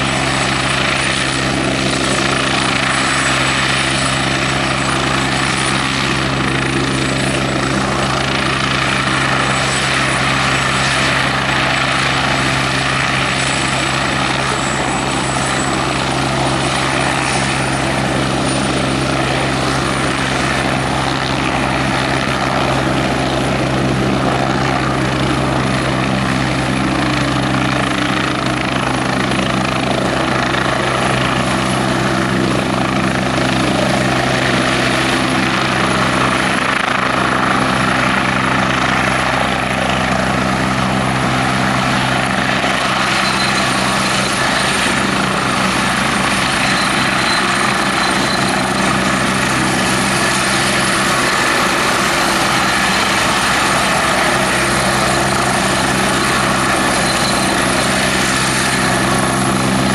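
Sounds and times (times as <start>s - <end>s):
helicopter rotor beat: 0.0s - 59.9s
helicopter turbine whine: 0.0s - 59.9s.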